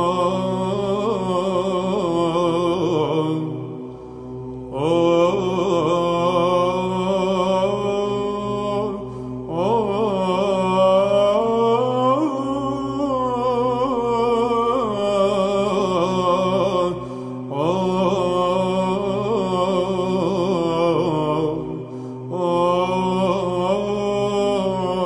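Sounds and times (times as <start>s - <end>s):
low vocal drone: 0.0s - 25.0s.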